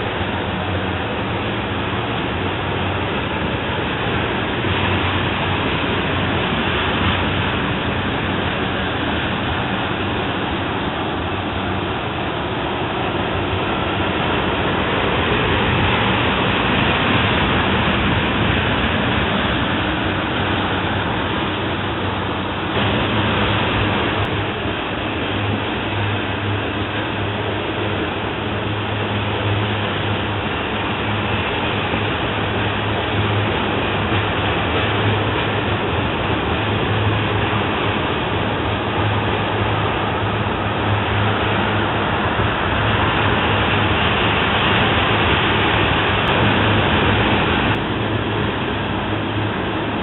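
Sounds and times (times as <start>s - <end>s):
freight train rolling past: 0.0s - 50.0s.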